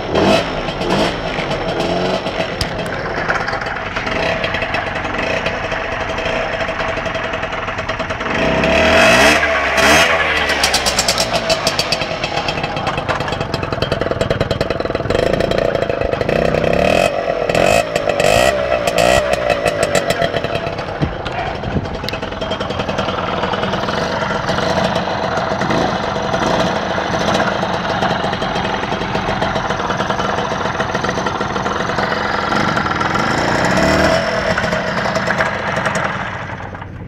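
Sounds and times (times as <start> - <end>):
moped engine revving: 0.0 - 37.0.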